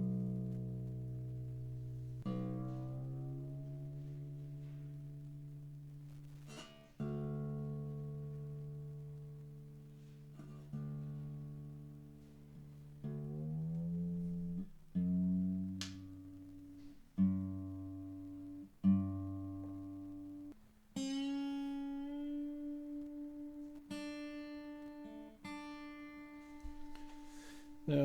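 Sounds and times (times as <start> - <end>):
acoustic guitar strings plucked: 0.0 - 28.0.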